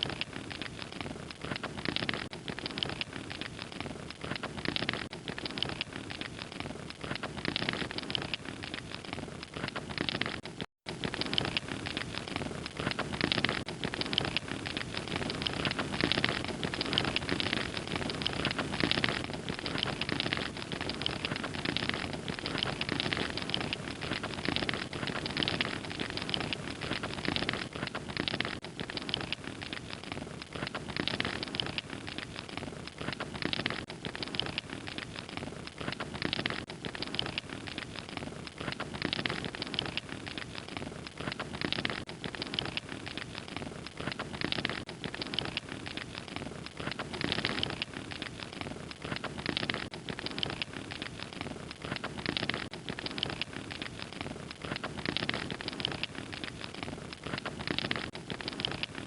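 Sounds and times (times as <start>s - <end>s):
fire crackling with soft hiss: 0.0s - 59.0s.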